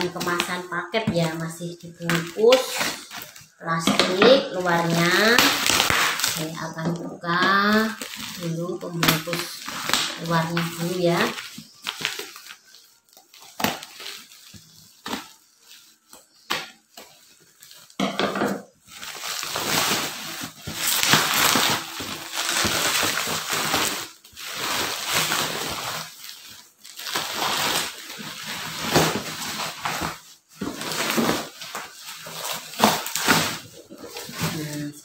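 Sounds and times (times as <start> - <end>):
plastic packaging crinkling: 0.0 - 35.0.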